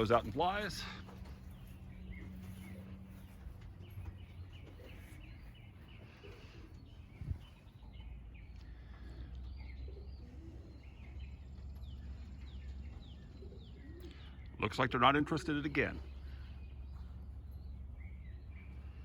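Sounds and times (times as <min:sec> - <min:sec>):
birds chirping: 0:00.0 - 0:19.0
pigeons cooing: 0:00.0 - 0:19.0.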